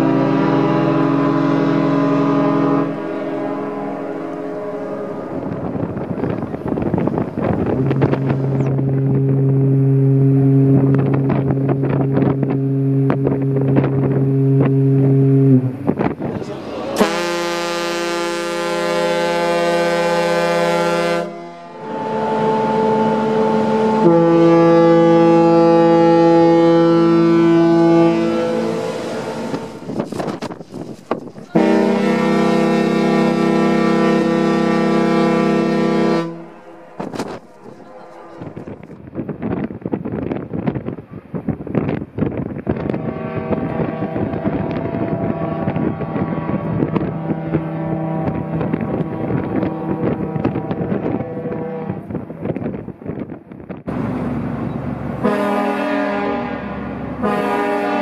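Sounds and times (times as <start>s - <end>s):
wind buffeting microphone: 0.0s - 17.1s, 22.0s - 55.3s
ship's horn blasts: 0.0s - 39.3s, 42.7s - 52.6s, 53.9s - 58.0s.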